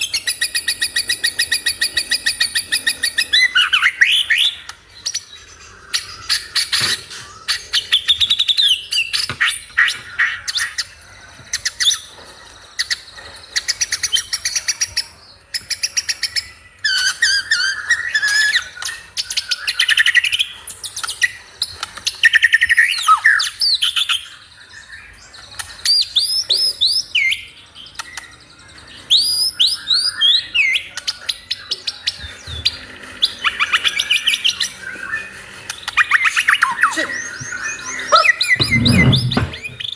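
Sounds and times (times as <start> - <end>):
songbird trilling and whistling: 0.0 - 39.9.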